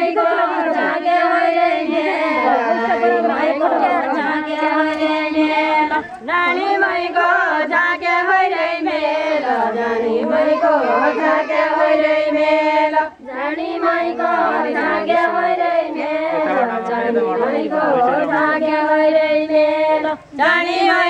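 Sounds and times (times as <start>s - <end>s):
women singing together: 0.0s - 21.0s.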